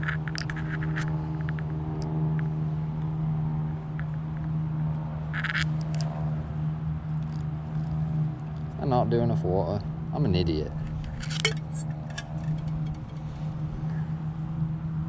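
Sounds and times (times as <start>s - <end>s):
steady engine hum: 0.0s - 15.0s.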